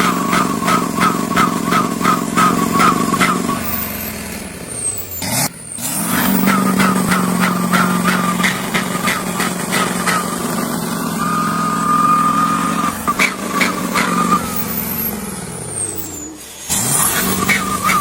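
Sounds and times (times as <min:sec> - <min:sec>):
truck engine revving with whine: 0:00.0 - 0:18.0.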